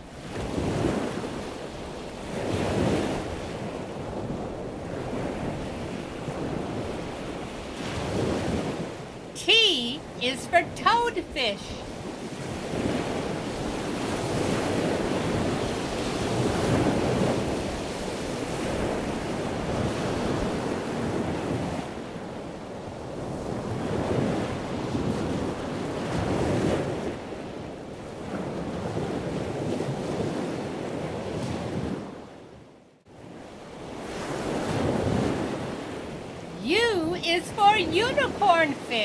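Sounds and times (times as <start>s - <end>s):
rushing water like surf: 0.0s - 32.5s, 33.1s - 39.0s.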